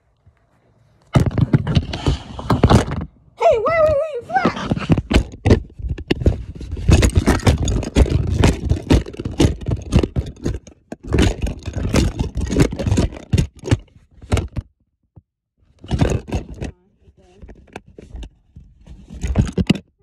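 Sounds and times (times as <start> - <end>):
phone scraping and rattling: 1.1 - 3.2, 3.9 - 14.7, 15.7 - 20.0.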